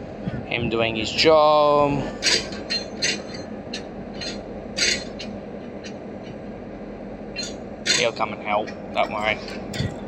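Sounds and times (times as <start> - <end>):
diesel locomotive idling: 0.0 - 10.0.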